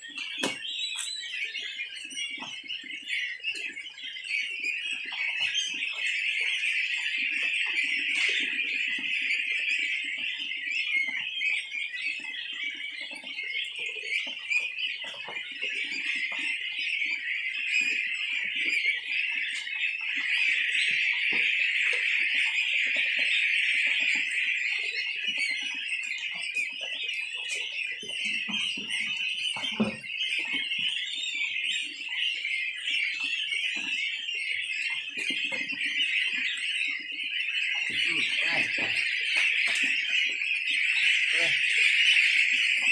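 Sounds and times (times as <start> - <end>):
goslings peeping: 0.0 - 42.9.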